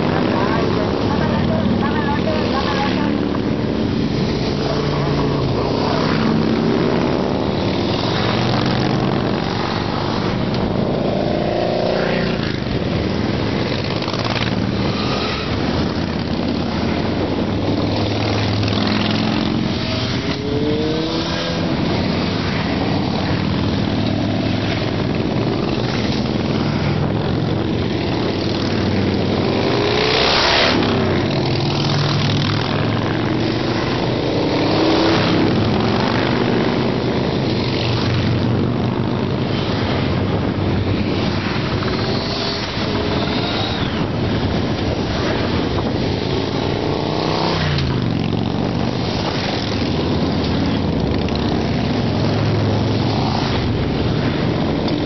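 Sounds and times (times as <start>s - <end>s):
motorcycles riding past: 0.0s - 55.0s
single motorcycle passing close: 4.1s - 55.0s.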